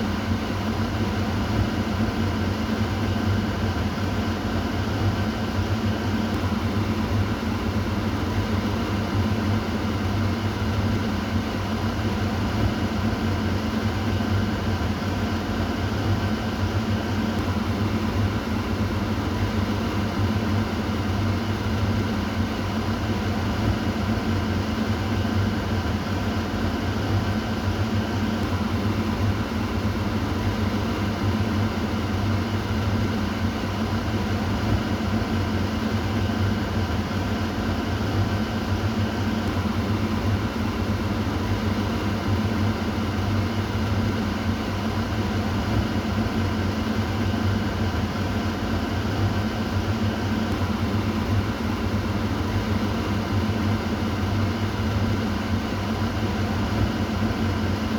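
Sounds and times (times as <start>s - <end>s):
kitchen exhaust fan running: 0.0s - 57.9s.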